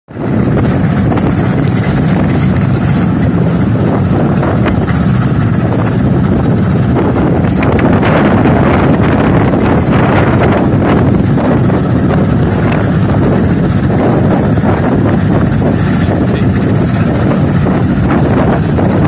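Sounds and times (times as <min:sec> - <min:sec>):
motorboat engine running: 0:00.1 - 0:19.0
water rushing: 0:00.1 - 0:19.0
wind: 0:00.1 - 0:19.0.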